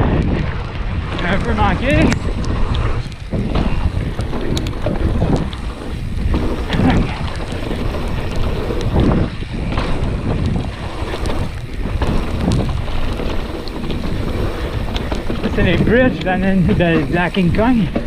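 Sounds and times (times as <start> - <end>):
bike clicks and rattles: 0.0 - 18.0
tyre noise over ground: 0.0 - 18.0
wind on microphone: 0.0 - 18.0.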